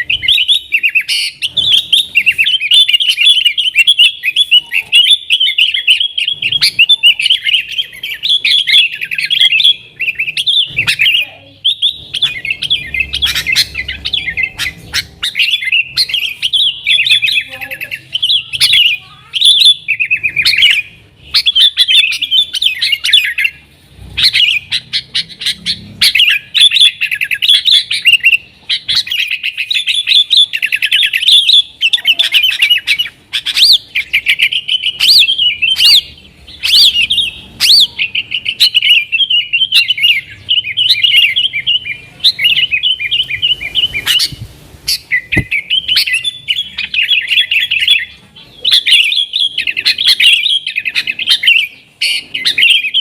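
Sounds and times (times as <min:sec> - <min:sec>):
bird singing warbling phrases: 0:00.0 - 0:53.0.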